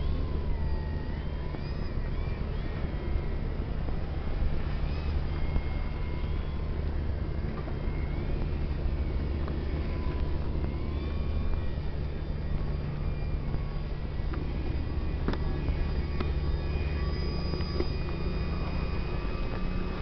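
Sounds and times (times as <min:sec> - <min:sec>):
model plane motor whine: 0:00.0 - 0:20.0
wind buffeting microphone: 0:00.0 - 0:20.0.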